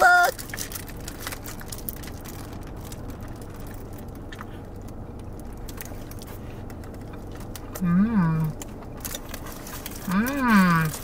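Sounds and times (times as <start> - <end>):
foil wrapper crinkling: 0.0 - 7.8, 8.5 - 11.0
low hum inside a car: 0.0 - 11.0
soft chewing: 0.4 - 11.0.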